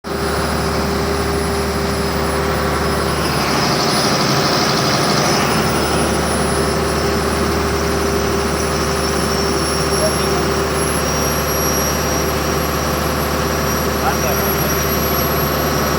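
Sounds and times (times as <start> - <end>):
diesel generator engine running: 0.0 - 15.9.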